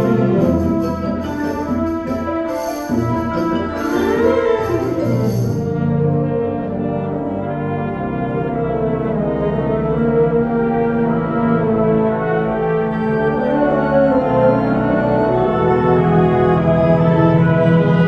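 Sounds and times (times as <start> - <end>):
wind band playing brass chords: 0.0 - 18.0.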